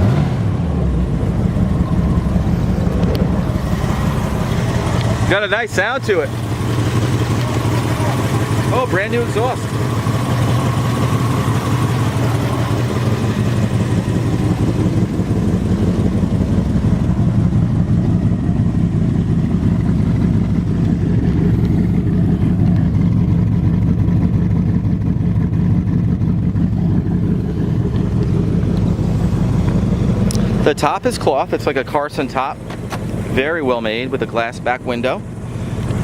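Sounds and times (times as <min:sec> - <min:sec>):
engine deep exhaust note: 0:00.0 - 0:36.0.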